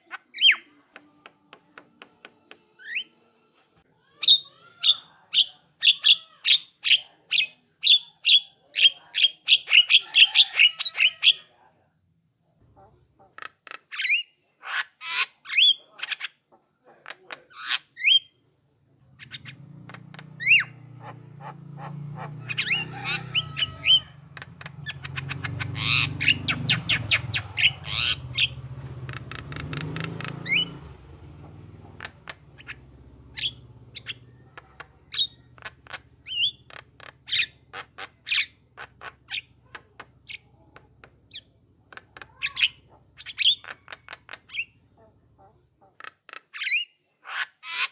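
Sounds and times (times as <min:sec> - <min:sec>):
birds squawking and whistling: 0:00.0 - 0:01.1, 0:02.8 - 0:03.1, 0:04.2 - 0:11.5, 0:12.7 - 0:16.4, 0:19.1 - 0:47.9
rapid chattering bird calls: 0:04.2 - 0:11.5, 0:12.6 - 0:47.9.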